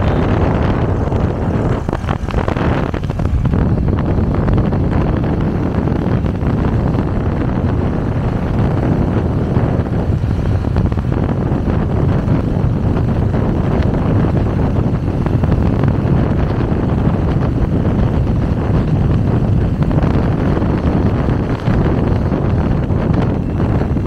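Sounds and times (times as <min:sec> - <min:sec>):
motorcycle engine running: 0:00.0 - 0:24.0
road noise: 0:00.0 - 0:24.0
wind buffeting microphone: 0:00.0 - 0:24.0.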